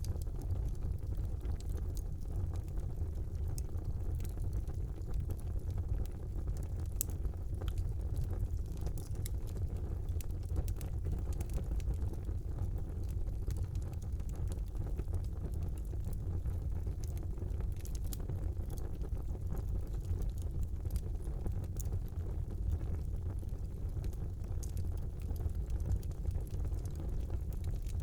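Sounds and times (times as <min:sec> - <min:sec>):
fire burning with crackles and pops: 0:00.0 - 0:28.0.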